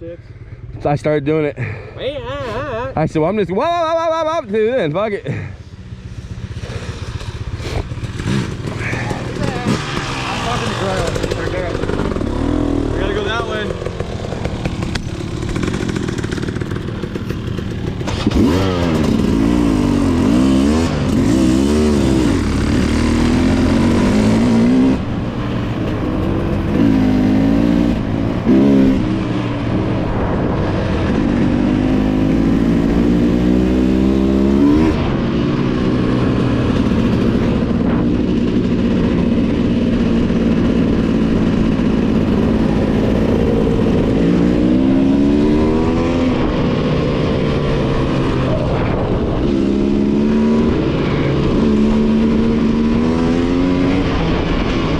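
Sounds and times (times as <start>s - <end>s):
dirt bike engine revving: 5.5s - 54.7s.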